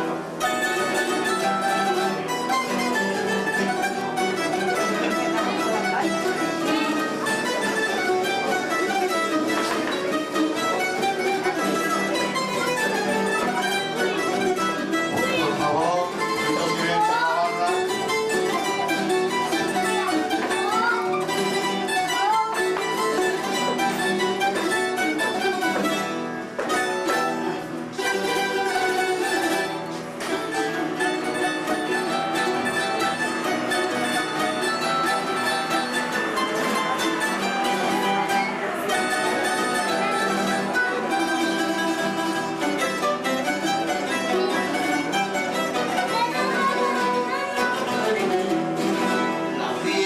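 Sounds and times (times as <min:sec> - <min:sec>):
plucked string trio playing: 0:00.0 - 0:50.0.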